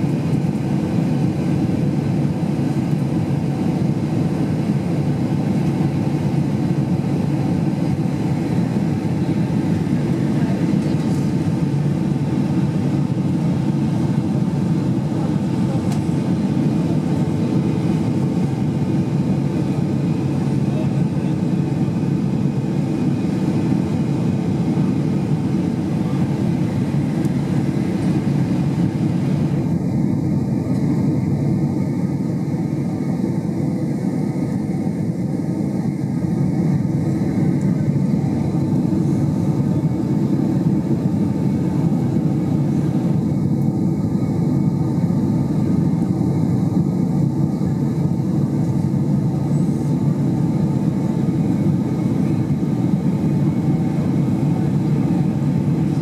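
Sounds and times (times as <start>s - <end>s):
airplane cabin engine roar: 0.0s - 56.0s.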